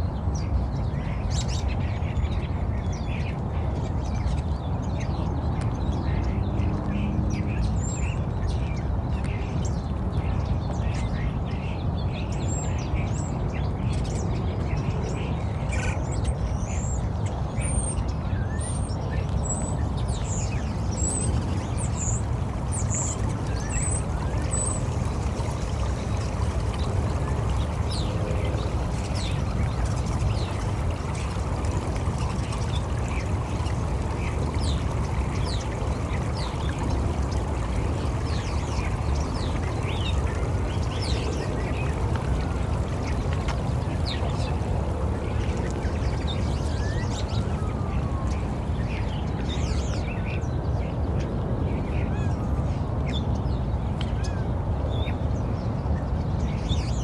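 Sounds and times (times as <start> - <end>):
birds chirping: 0.0 - 50.8
flowing water: 0.0 - 57.0.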